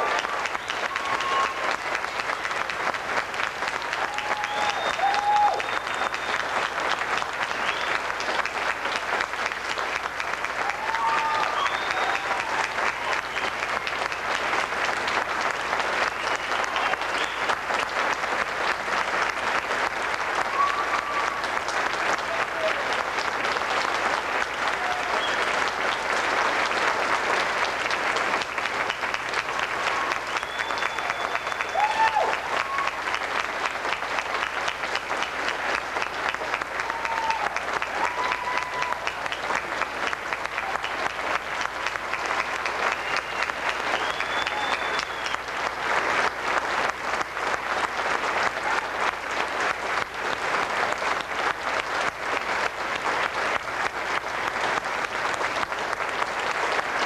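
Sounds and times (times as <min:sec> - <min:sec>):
audience cheering: 0:00.0 - 0:47.2, 0:47.8 - 0:57.0
audience applauding: 0:00.0 - 0:57.0.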